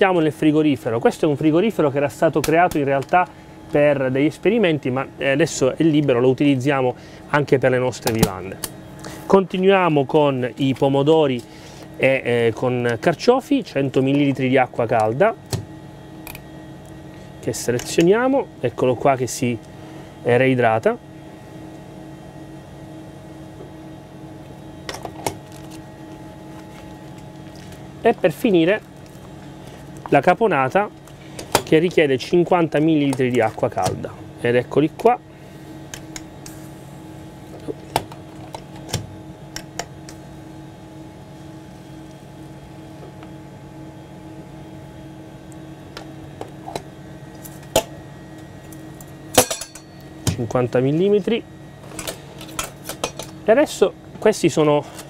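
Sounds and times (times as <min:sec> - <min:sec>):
cabin equipment hum: 0:00.0 - 0:55.0.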